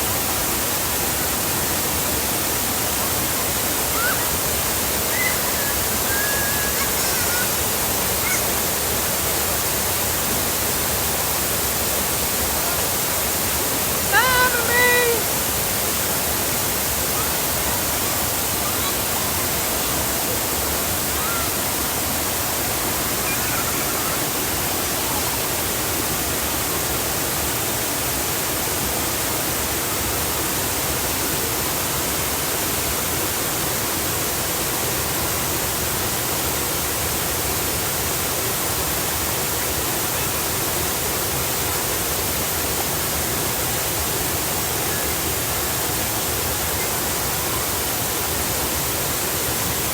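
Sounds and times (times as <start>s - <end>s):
waterfall roaring: 0.0s - 49.9s.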